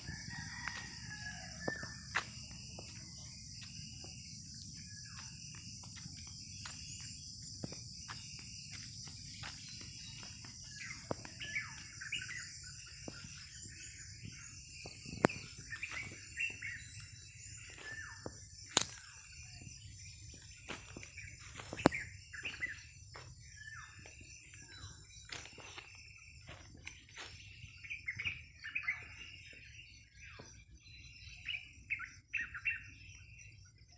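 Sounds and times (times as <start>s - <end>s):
birds chirping: 0.0s - 33.7s
insects chorus: 0.0s - 33.9s.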